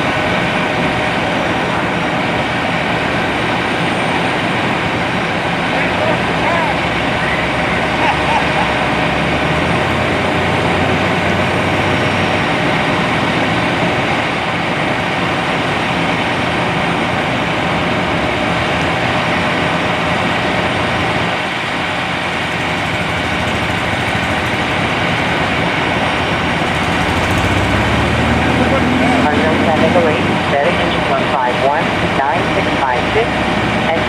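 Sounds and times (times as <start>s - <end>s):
heavy vehicle engine idling: 0.0s - 34.0s.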